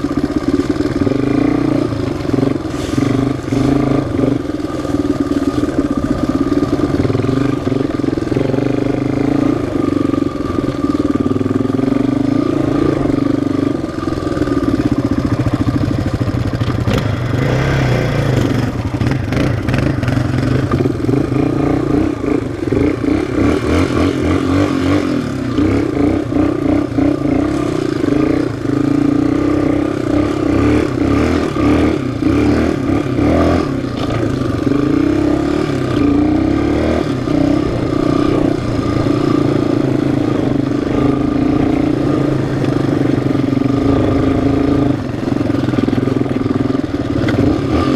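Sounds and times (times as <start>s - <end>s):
off-road engine running: 0.0s - 47.9s.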